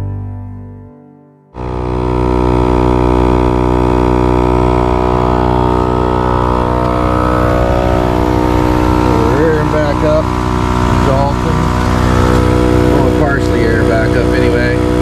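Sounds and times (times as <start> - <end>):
air compressor running: 1.6 - 15.0.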